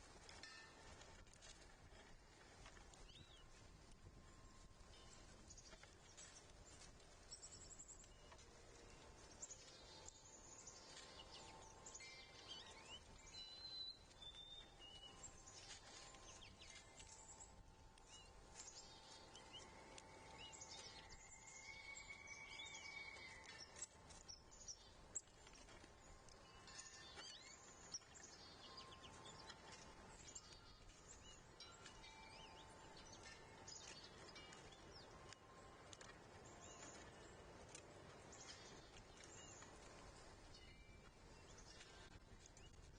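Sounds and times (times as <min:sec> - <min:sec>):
small birds chirping: 0:02.7 - 0:03.6, 0:04.8 - 0:42.9.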